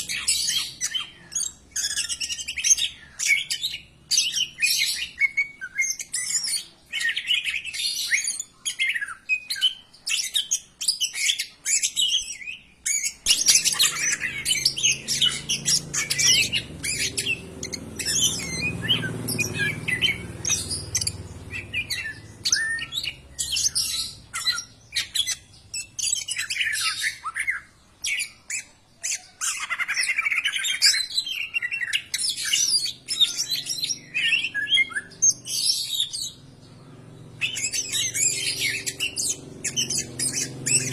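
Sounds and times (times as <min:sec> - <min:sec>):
bird singing varied chirps: 0:00.0 - 0:40.9.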